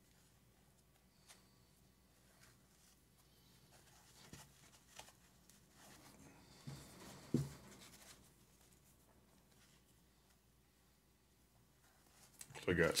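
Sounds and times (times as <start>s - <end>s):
rustling and scratching of string: 0.0s - 10.6s, 11.6s - 13.0s.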